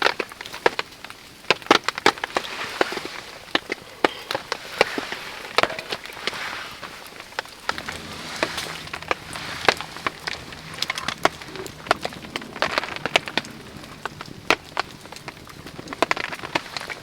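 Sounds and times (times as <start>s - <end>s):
campfire crackling: 0.0s - 17.0s
steady rain: 0.0s - 17.0s.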